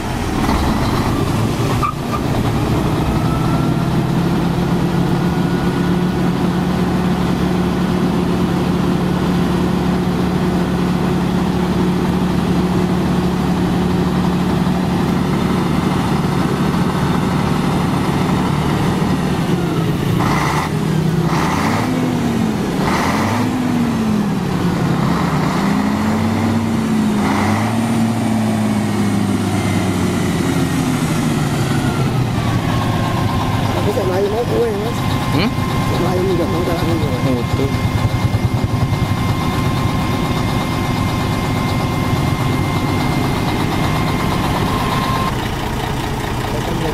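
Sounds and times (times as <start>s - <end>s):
truck diesel engine idling and revving: 0.0s - 46.9s.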